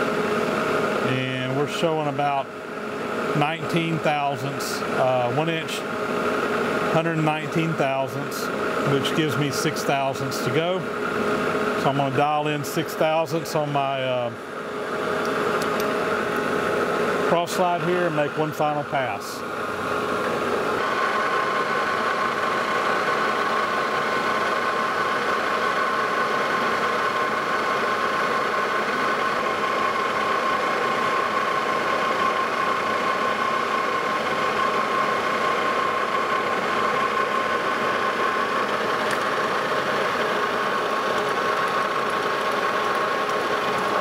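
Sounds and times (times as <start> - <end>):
lathe running with whine: 0.0 - 44.0.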